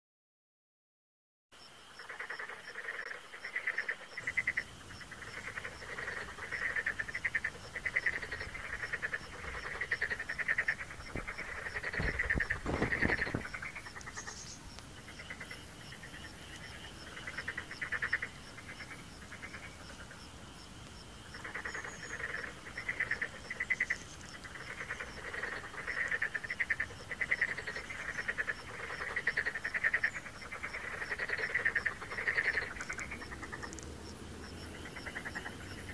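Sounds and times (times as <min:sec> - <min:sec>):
frog croaking: 0:01.8 - 0:35.9.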